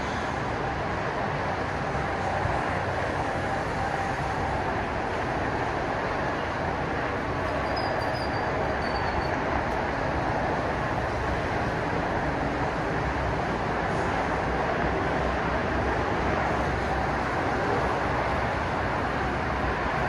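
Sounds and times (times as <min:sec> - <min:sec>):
road traffic rushing: 0:00.0 - 0:20.0.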